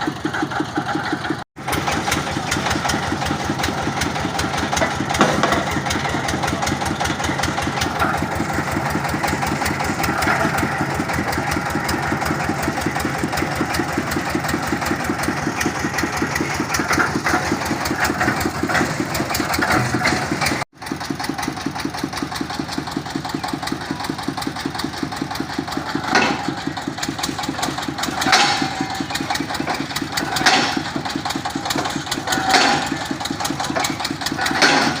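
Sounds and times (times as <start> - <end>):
boring rig engine running: 0.0 - 35.0.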